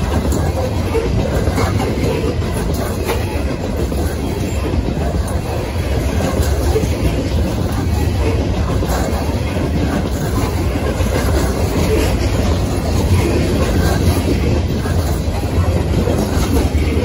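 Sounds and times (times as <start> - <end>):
train wheels running on rail: 0.0 - 17.0.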